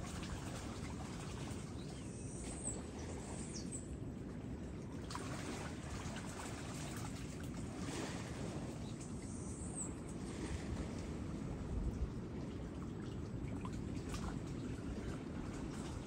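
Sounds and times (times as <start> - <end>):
shallow water sloshing: 0.0 - 16.0.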